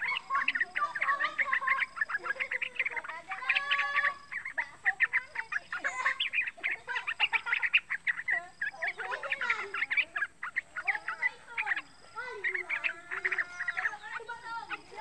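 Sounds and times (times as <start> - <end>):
bird chattering song: 0.0 - 15.0.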